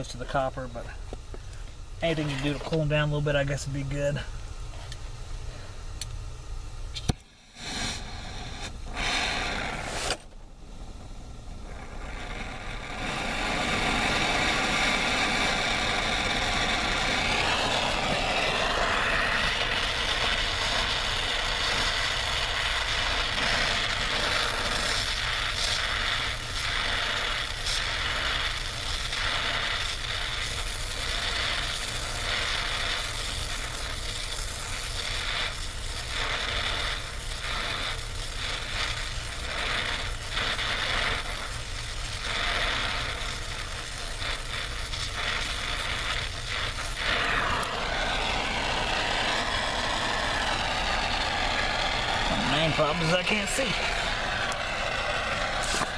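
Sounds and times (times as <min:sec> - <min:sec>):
torch flame hissing: 0:00.0 - 0:55.9.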